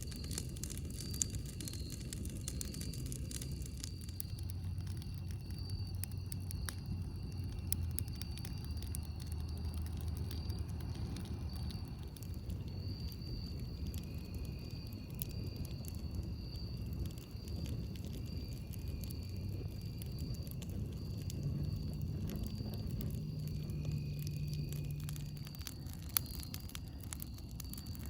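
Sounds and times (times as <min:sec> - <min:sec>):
campfire crackling and popping: 0:00.0 - 0:28.0
low steady rumble: 0:00.0 - 0:28.0.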